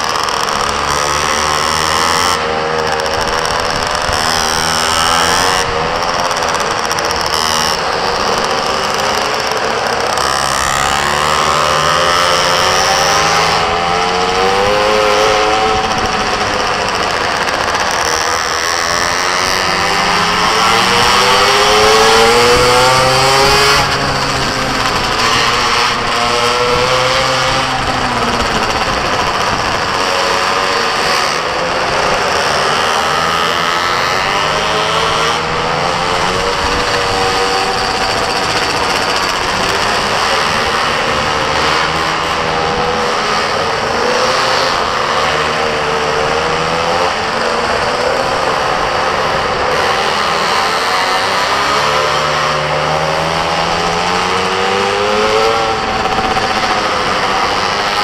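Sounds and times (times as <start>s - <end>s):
small motorbike engine revving: 0.0s - 58.0s.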